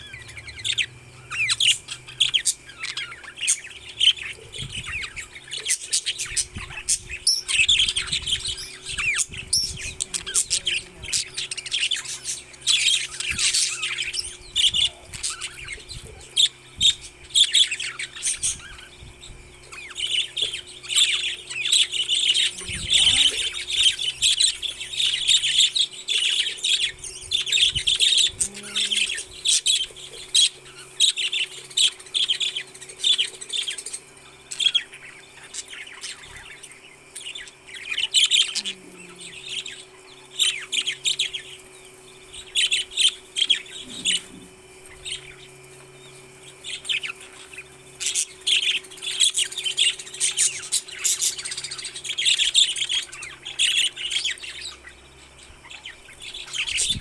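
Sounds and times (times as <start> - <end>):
parrots chirping and calling: 0.0 - 57.0.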